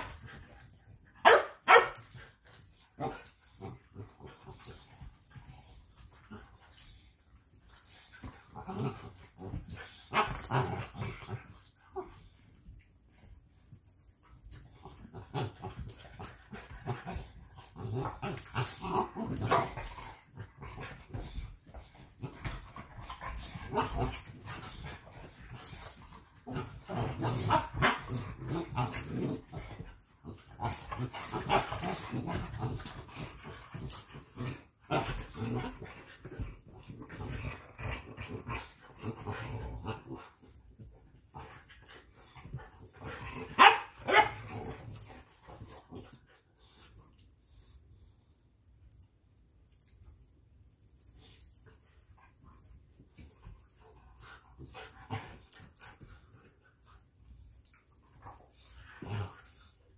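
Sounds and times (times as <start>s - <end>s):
dogs growling while play-fighting: 0.0s - 1.2s, 2.0s - 47.8s, 51.0s - 59.9s.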